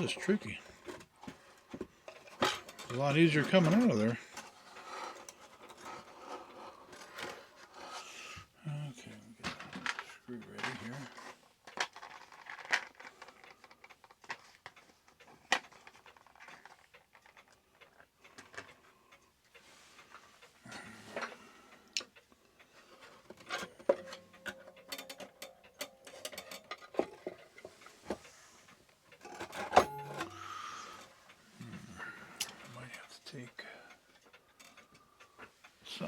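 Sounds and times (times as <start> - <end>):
clock parts clicking and scraping: 0.0 - 8.2, 9.4 - 31.4, 32.4 - 36.0.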